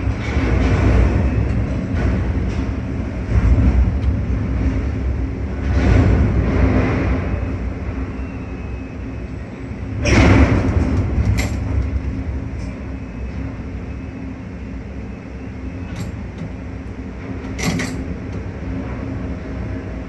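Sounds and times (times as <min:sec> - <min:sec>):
crane machinery rumbling: 0:00.0 - 0:20.0.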